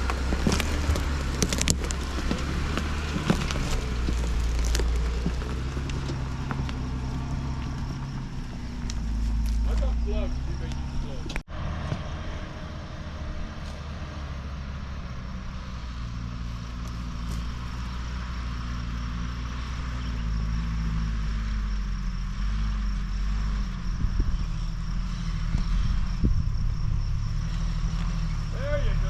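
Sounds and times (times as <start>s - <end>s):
truck engine at low revs: 0.0s - 29.0s.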